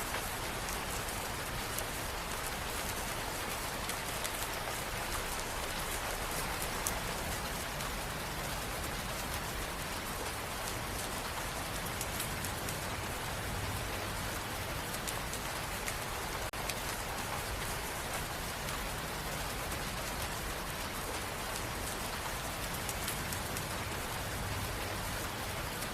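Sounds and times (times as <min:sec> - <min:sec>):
steady rain falling: 0:00.0 - 0:25.9
sharp raindrop ticks: 0:00.1 - 0:25.9.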